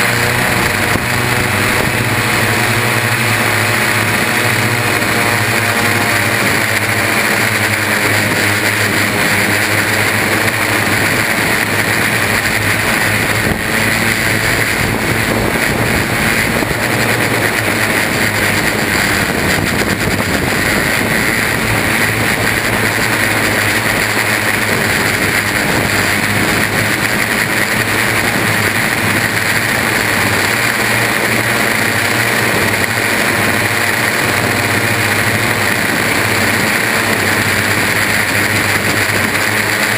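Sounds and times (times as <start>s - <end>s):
drone motors buzzing whine: 0.0s - 39.9s.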